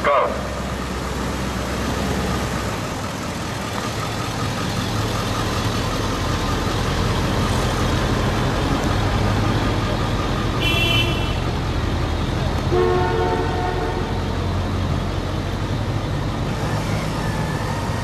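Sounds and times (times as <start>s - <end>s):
street traffic noise: 0.0s - 18.0s
vehicle engine idling: 0.0s - 18.0s.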